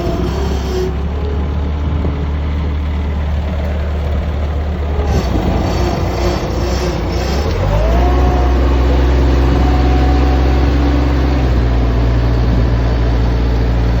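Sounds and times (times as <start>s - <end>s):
tractor engine humming: 0.0s - 14.0s.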